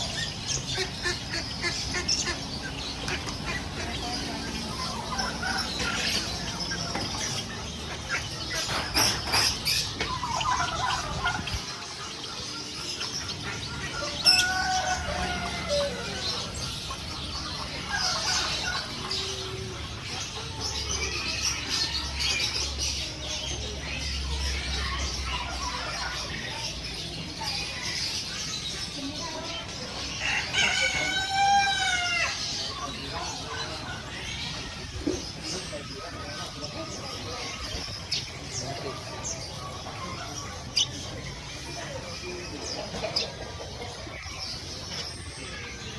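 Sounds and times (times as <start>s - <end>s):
caged birds calling and chirping: 0.0s - 45.9s.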